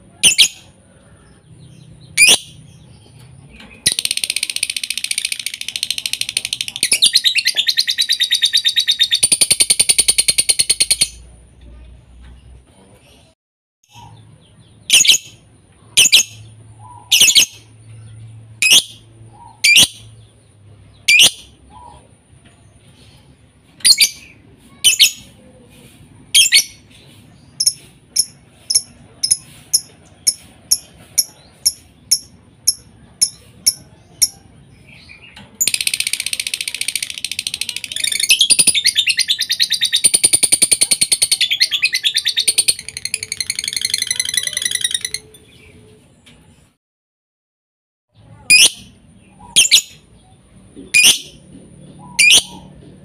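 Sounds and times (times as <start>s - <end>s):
lovebird chirping: 0.1s - 11.3s, 13.9s - 22.1s, 22.9s - 25.4s, 26.3s - 46.0s, 48.2s - 52.8s.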